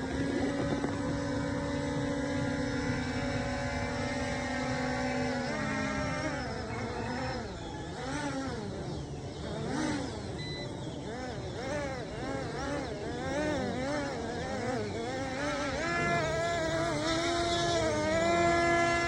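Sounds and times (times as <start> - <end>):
toy drone propellers whining: 0.0 - 19.0.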